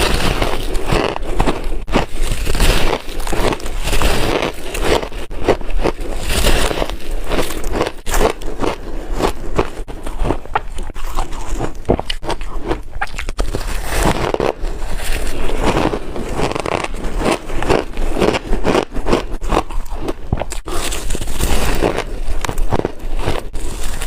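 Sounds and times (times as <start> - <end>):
biting and crunching ice: 0.0 - 24.0.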